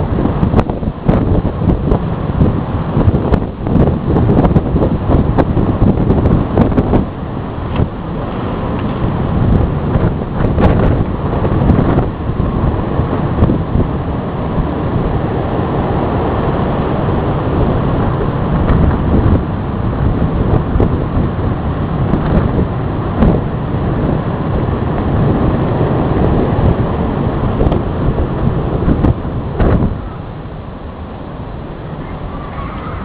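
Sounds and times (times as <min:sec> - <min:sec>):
storm wind buffeting microphone: 0:00.0 - 0:33.0
surf: 0:00.0 - 0:33.0.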